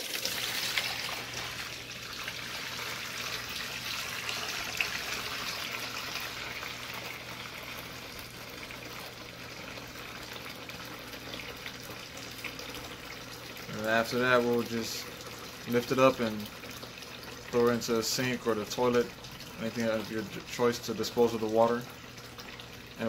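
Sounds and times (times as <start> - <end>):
water draining and splashing: 0.0 - 23.0.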